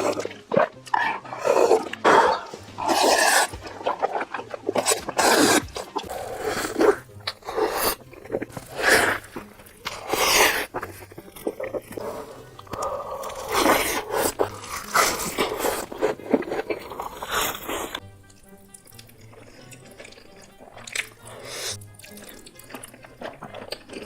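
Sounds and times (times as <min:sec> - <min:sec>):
wet chewing and mouth noises: 0:00.0 - 0:24.0.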